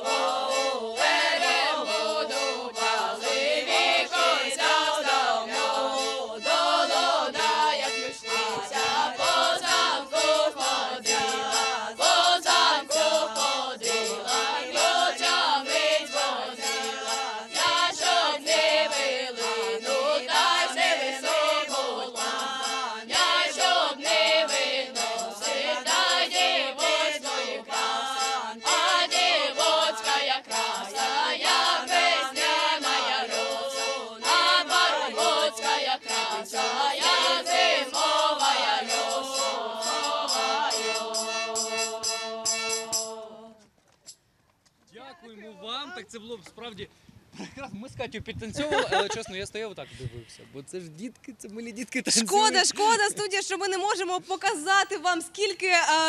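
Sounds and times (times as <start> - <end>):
children and women singing folk song: 0.0 - 43.7, 52.2 - 56.0.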